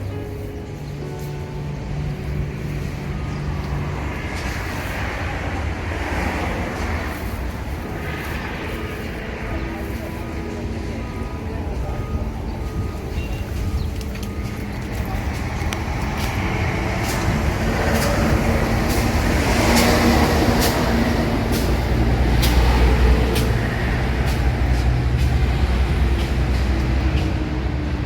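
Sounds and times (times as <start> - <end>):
heavy vehicle engine rumbling: 0.0 - 28.0.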